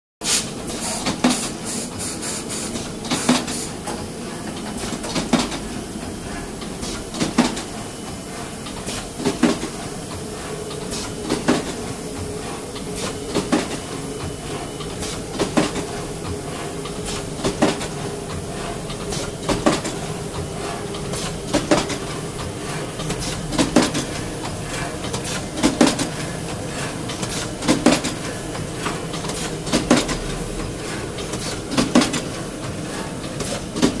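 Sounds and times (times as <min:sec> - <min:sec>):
packaging machine hum: 0:00.2 - 0:34.0.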